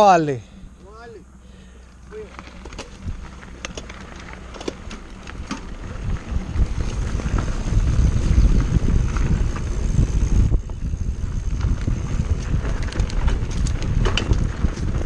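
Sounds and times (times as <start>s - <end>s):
bike tyres rumbling on dirt trail: 1.4s - 15.0s
bike clicks and rattles: 1.8s - 15.0s
wind buffeting microphone: 2.6s - 15.0s.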